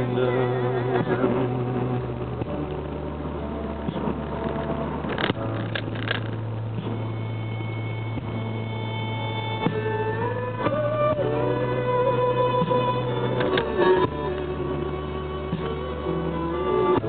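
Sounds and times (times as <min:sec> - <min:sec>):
car cabin engine hum: 0:00.0 - 0:17.0
faint music notes: 0:00.0 - 0:17.0.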